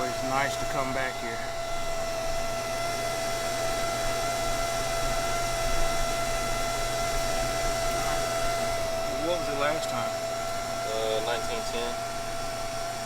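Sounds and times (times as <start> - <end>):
clothes dryer running: 0.0 - 13.0.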